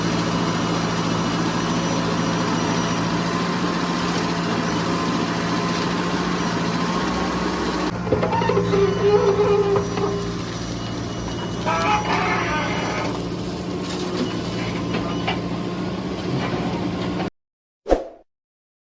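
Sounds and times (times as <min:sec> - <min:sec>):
heavy diesel engine running: 0:00.0 - 0:17.3.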